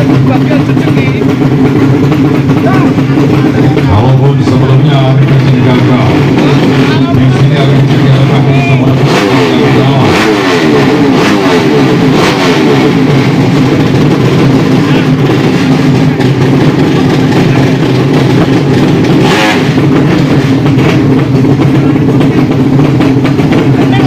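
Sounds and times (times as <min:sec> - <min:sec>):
motorcycle engines at high revs: 0:00.0 - 0:24.0.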